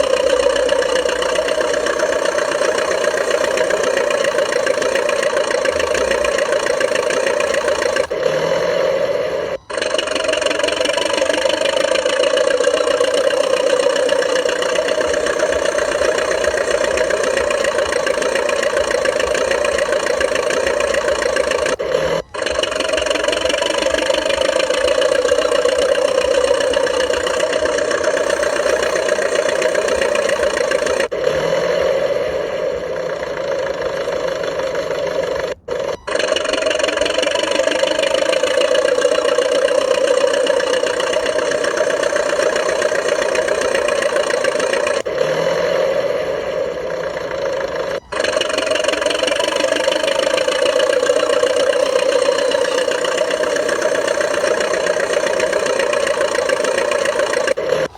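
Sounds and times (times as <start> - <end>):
model bulldozer motor humming: 0.0 - 57.9.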